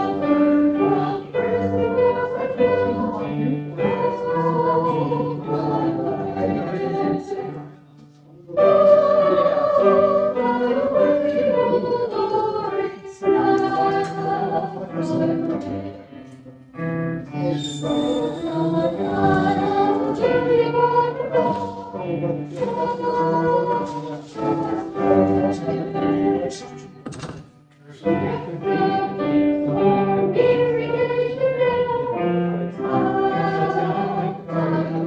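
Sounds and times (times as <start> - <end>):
congregation singing a hymn: 0.0 - 27.4, 28.0 - 35.0.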